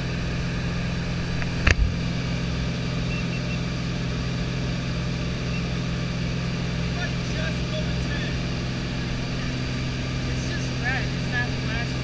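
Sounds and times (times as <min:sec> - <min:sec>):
plane engine and propeller drone: 0:00.0 - 0:12.0.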